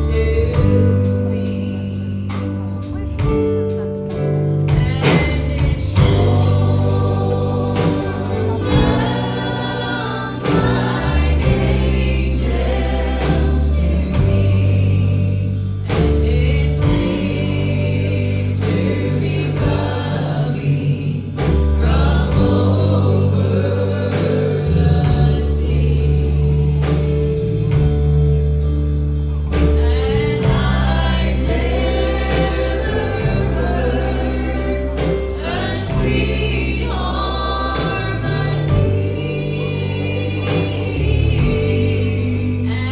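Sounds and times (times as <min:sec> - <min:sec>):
band with held bass notes: 0:00.0 - 0:42.9
voices singing in harmony: 0:04.7 - 0:27.8, 0:29.5 - 0:42.9.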